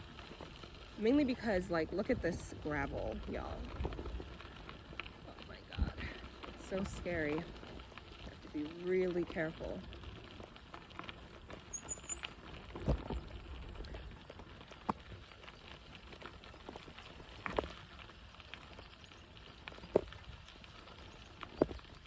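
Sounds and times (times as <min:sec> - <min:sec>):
bike knocking and rattling: 0:00.0 - 0:22.0
bike tyres rumbling on gravel: 0:00.0 - 0:22.0.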